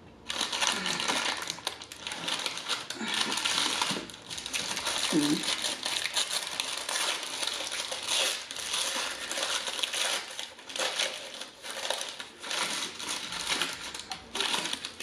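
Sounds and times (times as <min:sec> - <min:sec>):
paper wrappers crinkling: 0:00.2 - 0:15.0.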